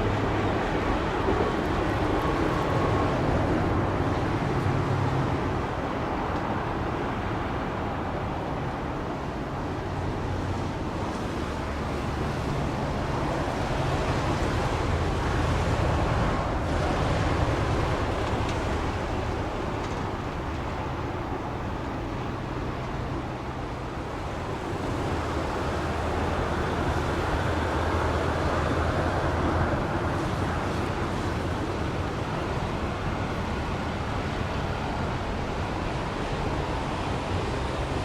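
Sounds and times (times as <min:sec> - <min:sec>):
train engine low hum: 0:00.0 - 0:38.0.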